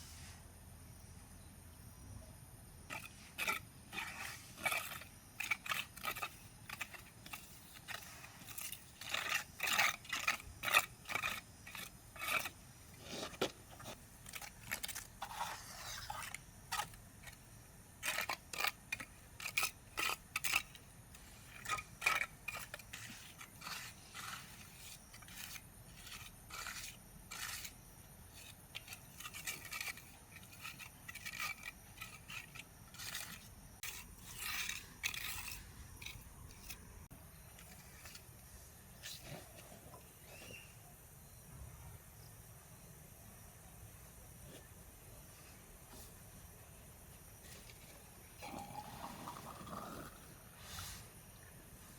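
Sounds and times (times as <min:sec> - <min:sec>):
tool scraping over concrete: 0:02.8 - 0:40.8, 0:47.3 - 0:51.2.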